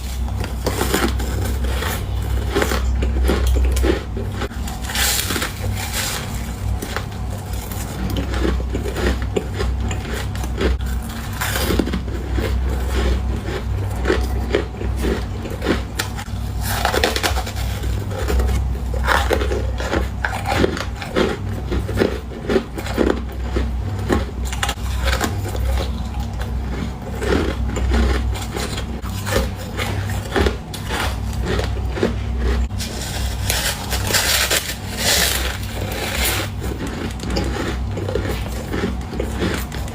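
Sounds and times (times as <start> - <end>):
ice crunching: 0.0 - 39.9
low hum: 0.0 - 39.9.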